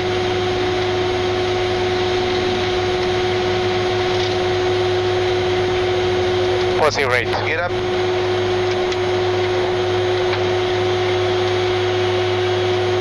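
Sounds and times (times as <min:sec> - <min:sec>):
turboprop engine drone: 0:00.0 - 0:13.0.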